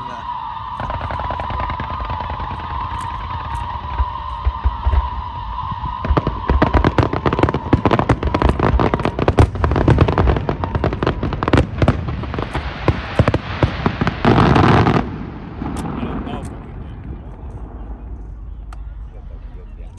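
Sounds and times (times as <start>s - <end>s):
crackling firework bangs: 0.0s - 18.4s
deep firework booms: 0.0s - 18.7s.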